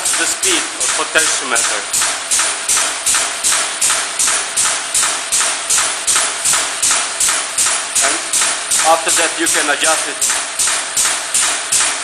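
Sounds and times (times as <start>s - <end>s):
punching press strokes: 0.0s - 12.0s.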